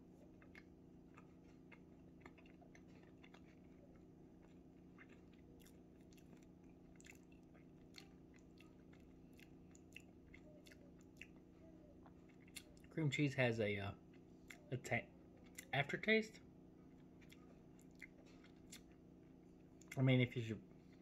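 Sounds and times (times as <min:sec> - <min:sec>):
faint chewing: 0:00.0 - 0:13.2, 0:13.9 - 0:21.0
low steady hum: 0:00.0 - 0:21.0.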